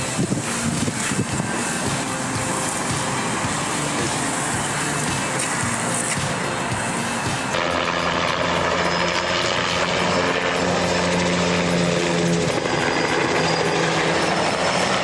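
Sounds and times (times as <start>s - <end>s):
helicopter rotor drone: 0.0s - 15.0s.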